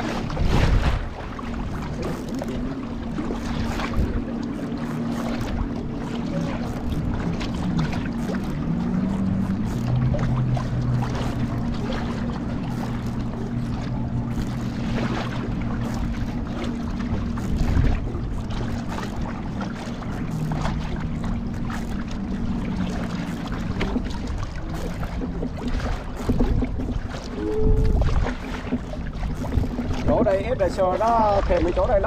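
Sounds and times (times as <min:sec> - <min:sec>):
small boat motor humming: 0:00.0 - 0:32.0
water splashing against hull: 0:00.0 - 0:32.0.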